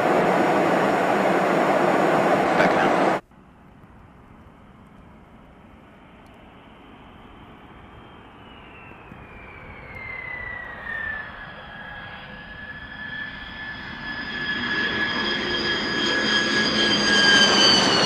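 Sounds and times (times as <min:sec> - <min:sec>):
jet noise: 0:00.0 - 0:03.7, 0:04.4 - 0:18.0
jet engine whine: 0:00.0 - 0:18.0.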